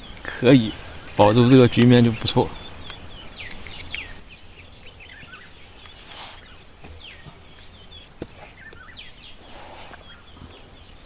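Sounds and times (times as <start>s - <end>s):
falling bird chirps: 0.0s - 11.0s
high-pitched insect trill: 0.0s - 11.0s.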